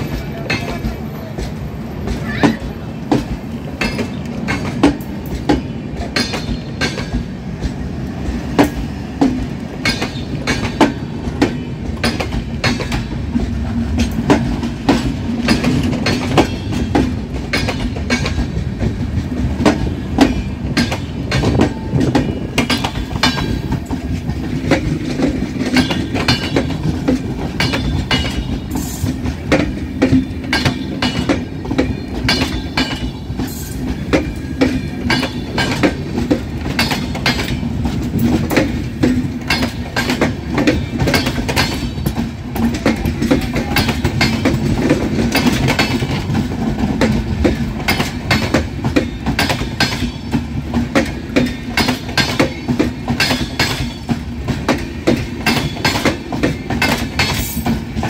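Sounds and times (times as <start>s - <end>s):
low rumble of train: 0.0s - 58.0s
train wheels clacking on track: 0.0s - 58.0s.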